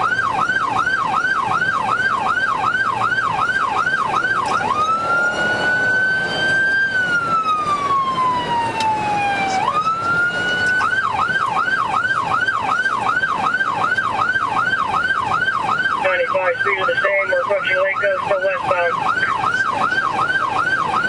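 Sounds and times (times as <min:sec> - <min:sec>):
police siren wailing and yelping: 0:00.0 - 0:21.0
road noise: 0:00.0 - 0:21.0.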